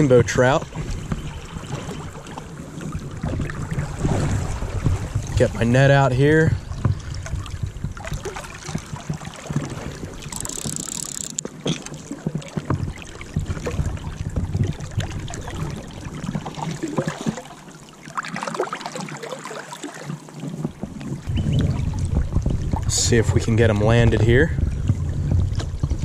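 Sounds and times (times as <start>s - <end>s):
wind rumble on microphone: 0.0s - 10.7s, 12.2s - 17.4s, 20.3s - 26.0s
creek water sloshing and splashing: 0.0s - 23.4s.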